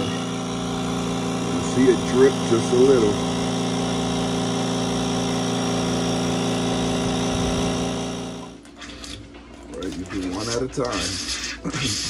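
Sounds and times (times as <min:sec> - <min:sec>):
air compressor motor hum: 0:00.0 - 0:09.3, 0:09.9 - 0:12.0.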